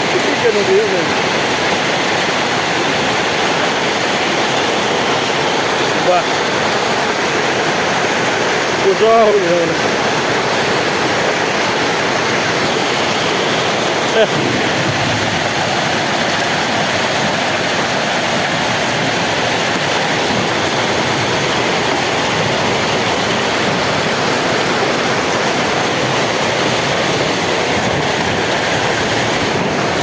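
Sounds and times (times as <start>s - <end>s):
hail pelting down: 0.0s - 30.0s.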